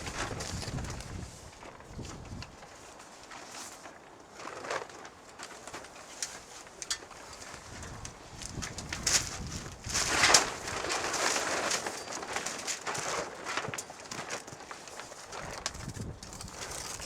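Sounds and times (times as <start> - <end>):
plastic sheet rustling and crinkling: 0.0 - 17.0.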